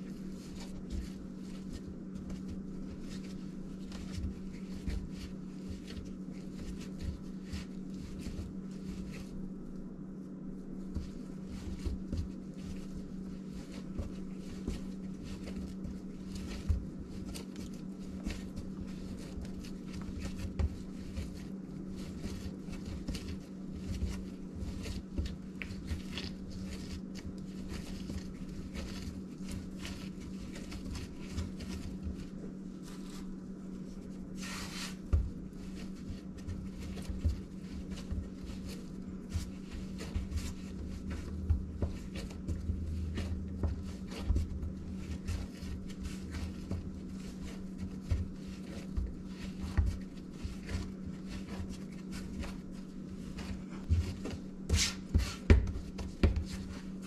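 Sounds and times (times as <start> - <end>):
hands kneading dough: 0.0 - 57.0
steady low hum: 0.0 - 57.0.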